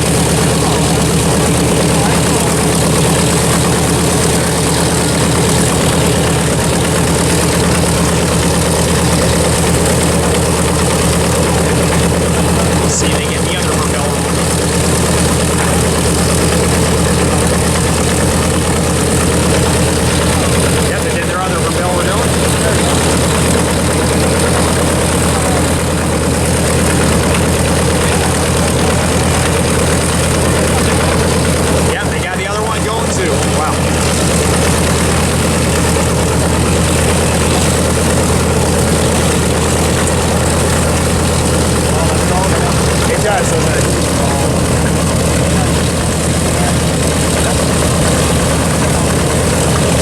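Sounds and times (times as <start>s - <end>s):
radial engine idling: 0.0s - 50.0s.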